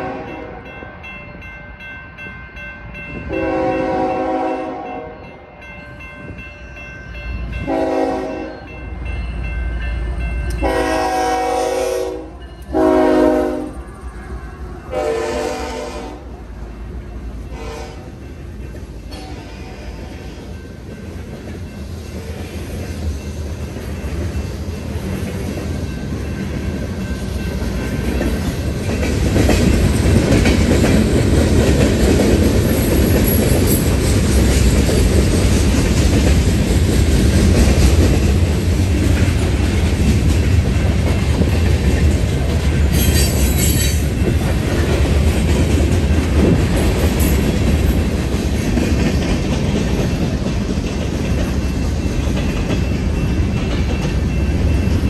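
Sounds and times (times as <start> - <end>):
train wheels rumbling on rails: 2.8 - 55.0.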